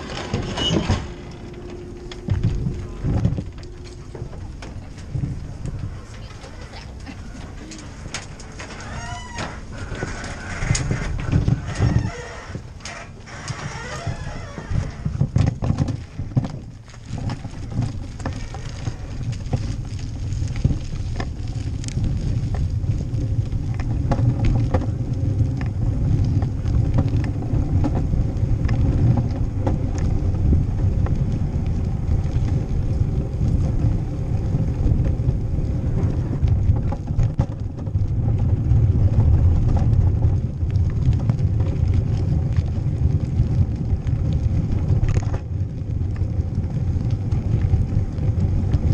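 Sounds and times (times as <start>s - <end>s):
bicycle rattling over paving stones: 0.0s - 48.9s
wind rumbling on microphone: 0.0s - 48.9s.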